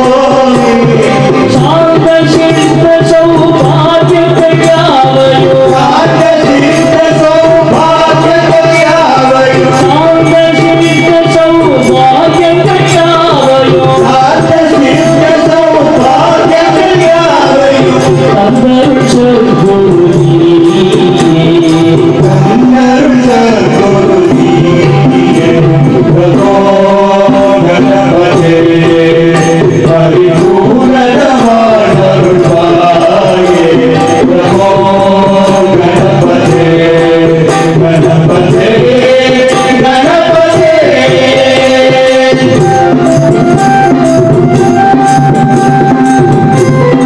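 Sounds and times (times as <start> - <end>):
electronic keyboard: 0.0 - 47.0
men singing into microphones: 0.0 - 47.0.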